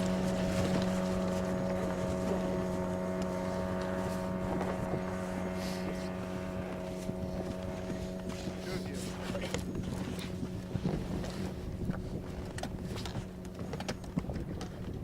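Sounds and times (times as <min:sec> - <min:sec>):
boat outboard motor running: 0:00.0 - 0:15.0.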